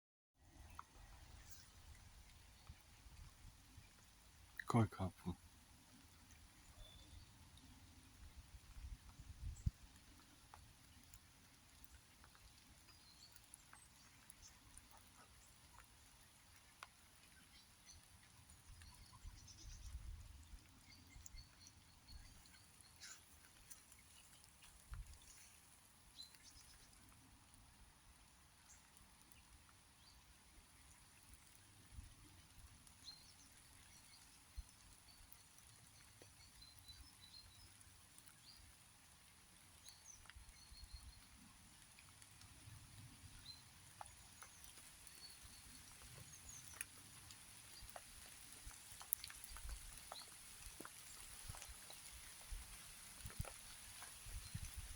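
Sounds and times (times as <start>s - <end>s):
faint ticks: 0.5s - 4.7s, 8.6s - 54.9s
small birds chirping: 0.5s - 54.9s.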